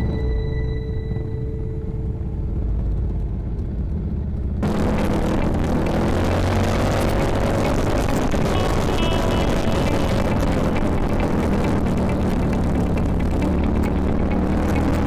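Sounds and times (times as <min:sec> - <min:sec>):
motorcycle engine rumbling: 0:00.0 - 0:15.0
wind noise on microphone: 0:00.0 - 0:15.0.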